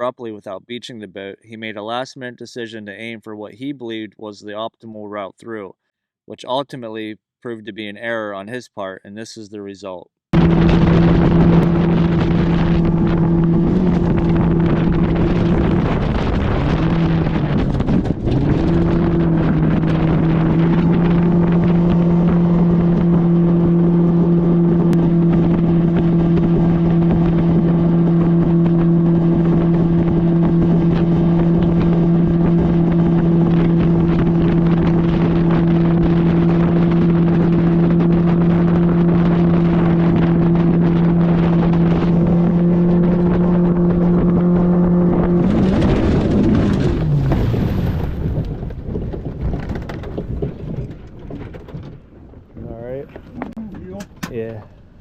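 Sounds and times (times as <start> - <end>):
boat motor running at high speed: 10.3 - 55.0
wind buffeting microphone: 10.3 - 55.0.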